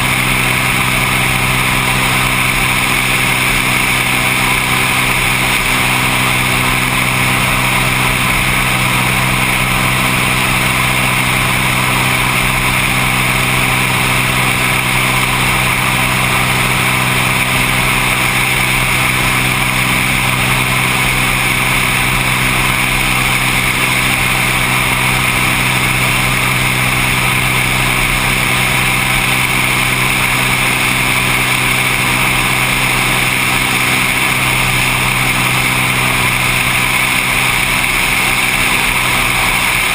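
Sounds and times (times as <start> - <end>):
seaplane engine droning: 0.0 - 39.9.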